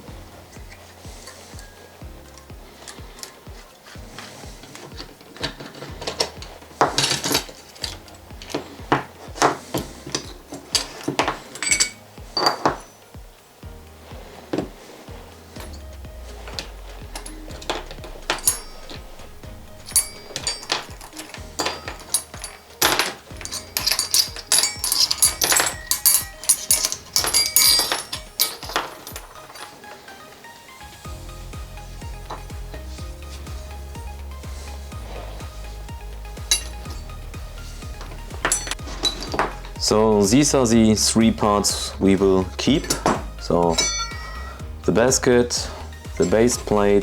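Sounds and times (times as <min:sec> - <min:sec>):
metal parts clinking and knocking: 0:00.0 - 0:30.3, 0:30.9 - 0:47.0
background music: 0:00.0 - 0:47.0.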